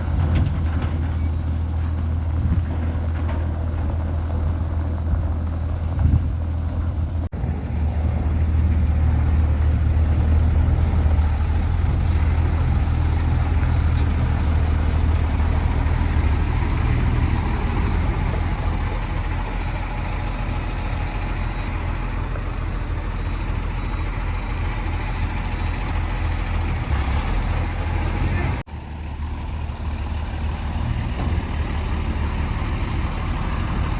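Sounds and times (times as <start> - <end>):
heavy diesel engine humming: 0.0 - 33.9.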